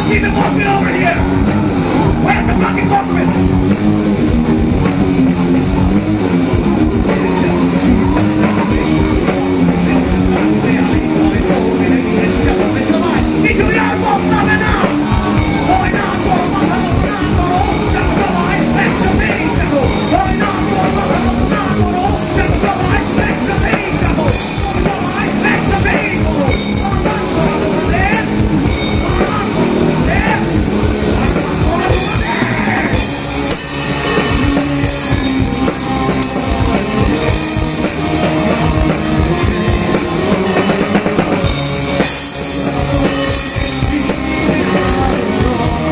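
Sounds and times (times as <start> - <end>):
drum kit: 0.0 - 45.9
live rock band playing: 0.0 - 45.9.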